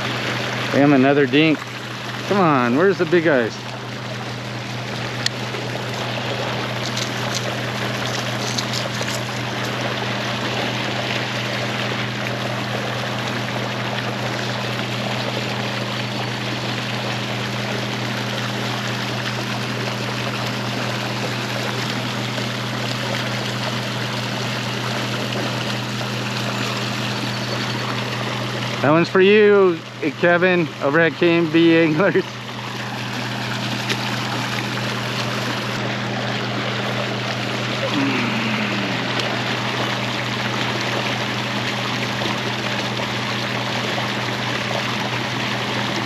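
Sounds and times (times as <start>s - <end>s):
low steady hum: 0.0s - 46.0s
water gushing into river: 0.0s - 46.0s.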